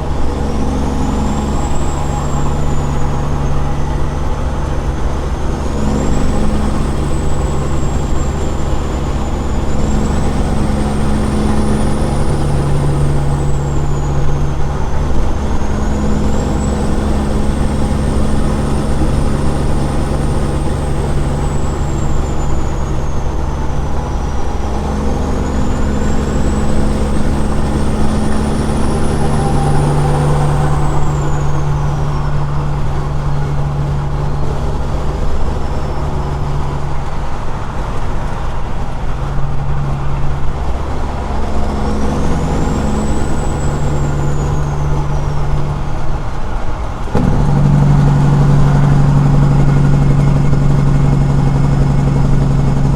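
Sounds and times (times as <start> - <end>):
high whine: 0.0 - 37.7, 38.5 - 52.9
diesel truck engine droning: 0.0 - 52.9.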